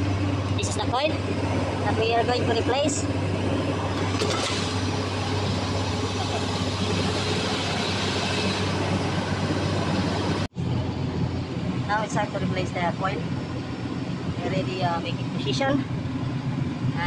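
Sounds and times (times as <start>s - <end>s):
broad rushing noise: 0.0s - 17.0s
low machinery hum: 0.0s - 17.0s.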